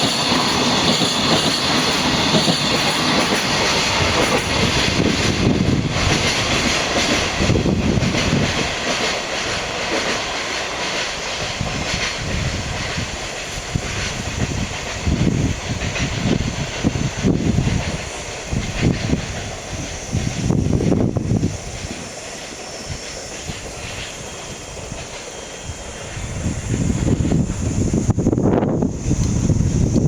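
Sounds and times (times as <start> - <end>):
freight train wagons rumbling: 0.0 - 30.0.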